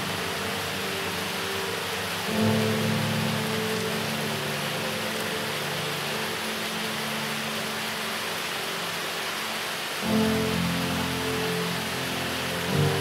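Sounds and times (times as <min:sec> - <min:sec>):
falling water hiss: 0:00.0 - 0:13.0
soft background music: 0:00.0 - 0:13.0.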